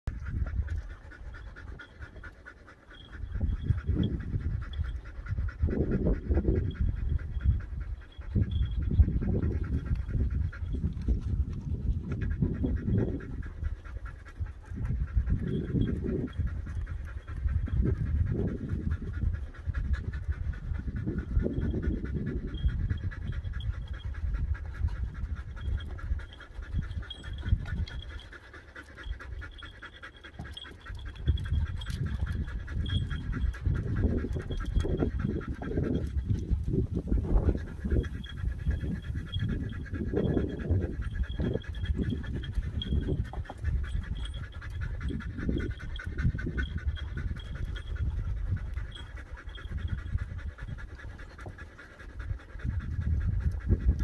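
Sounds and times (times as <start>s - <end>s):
dog panting: 0.1s - 54.0s.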